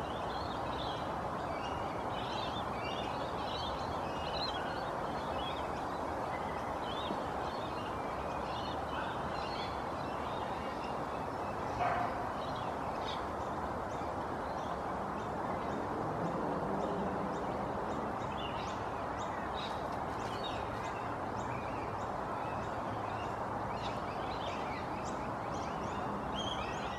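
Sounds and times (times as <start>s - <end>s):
steady background noise: 0.0s - 26.9s.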